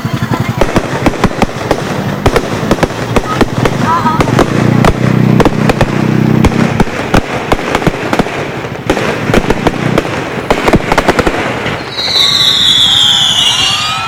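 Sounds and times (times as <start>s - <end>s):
fireworks bangs and crackles: 0.0s - 14.0s
fireworks high whistles: 0.0s - 14.0s.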